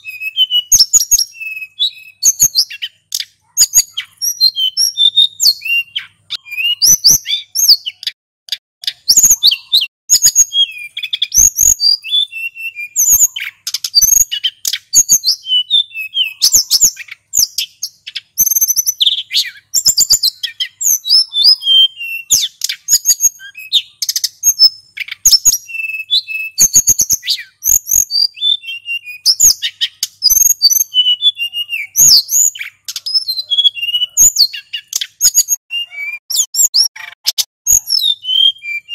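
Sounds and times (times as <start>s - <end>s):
bird singing whistles and trills: 0.0s - 8.2s, 8.8s - 38.9s.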